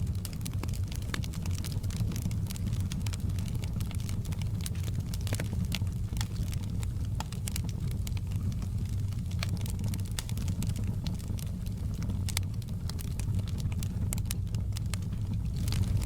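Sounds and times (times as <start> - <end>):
fire crackling and popping: 0.0 - 16.0
low rumble of fire: 0.0 - 16.0.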